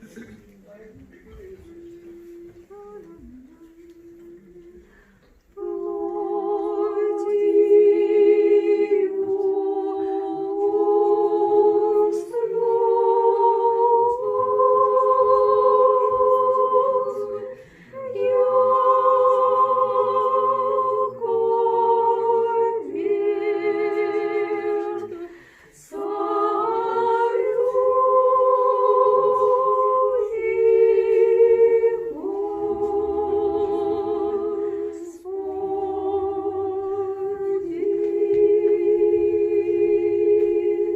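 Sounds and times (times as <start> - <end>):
choir singing a cappella chant: 1.0 - 40.9.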